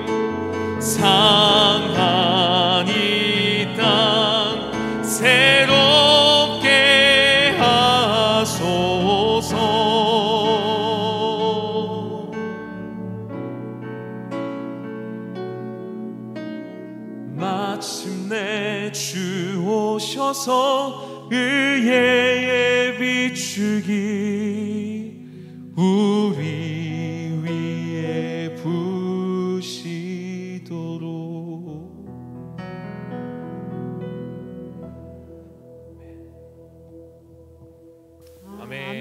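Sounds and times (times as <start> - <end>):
sustained keyboard chords: 0.0 - 39.0.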